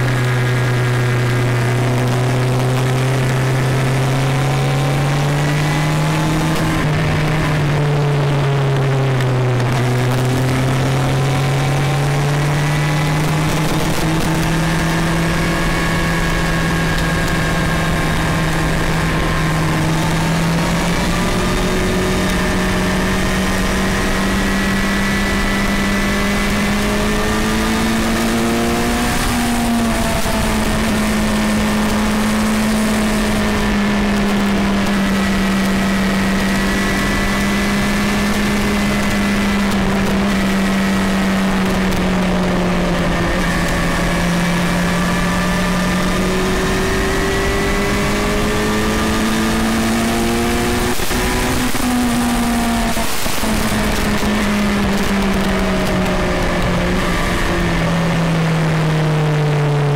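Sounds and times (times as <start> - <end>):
vehicle engine climbing uphill: 0.0 - 59.9.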